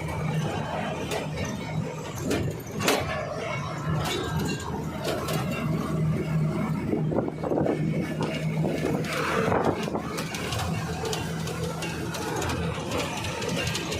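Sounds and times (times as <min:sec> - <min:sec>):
engine idling hum: 0:00.0 - 0:13.9.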